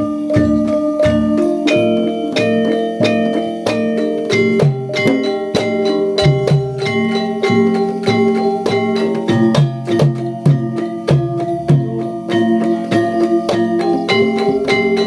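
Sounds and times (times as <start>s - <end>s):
mallet percussion music: 0.0s - 15.0s.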